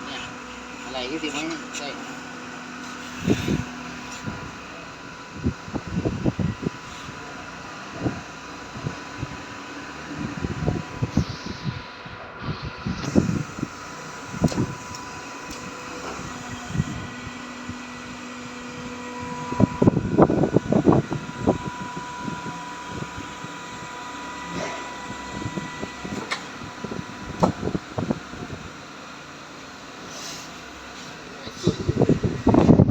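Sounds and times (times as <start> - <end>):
steady machine whine: 0.0 - 32.9.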